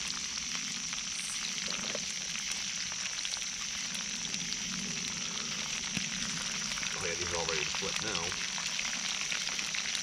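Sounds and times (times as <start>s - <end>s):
food sizzling in oil: 0.0s - 10.0s
oil popping and crackling: 0.0s - 10.0s.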